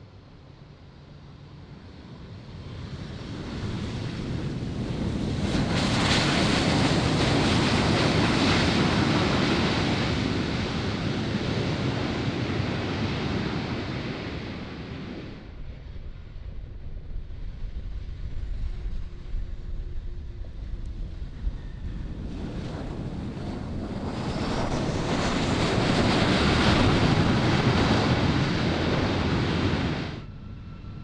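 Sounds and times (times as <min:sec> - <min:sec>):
jet airliner engine roar: 0:00.0 - 0:31.0.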